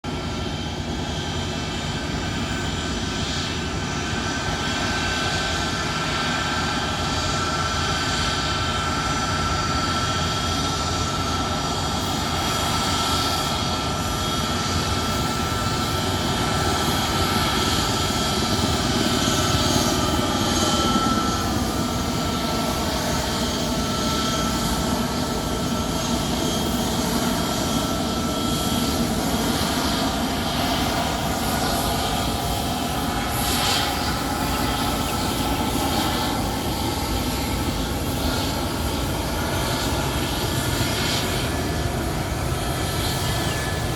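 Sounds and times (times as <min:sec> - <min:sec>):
high jet whine: 0:00.0 - 0:43.9
jet engines rushing: 0:00.1 - 0:43.9.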